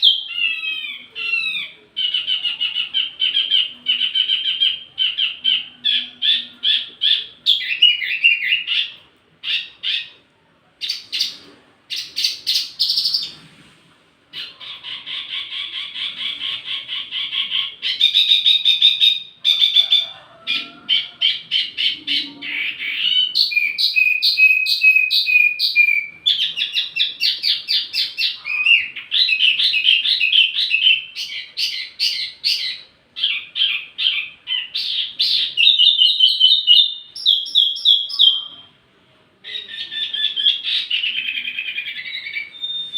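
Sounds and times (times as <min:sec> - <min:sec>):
songbird singing: 0:00.0 - 0:13.4, 0:14.4 - 0:38.8, 0:39.4 - 0:42.9.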